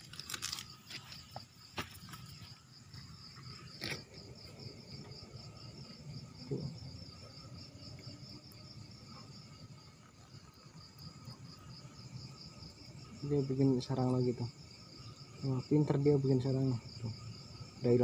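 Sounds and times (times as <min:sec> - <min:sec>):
cricket trilling: 0:00.0 - 0:18.0.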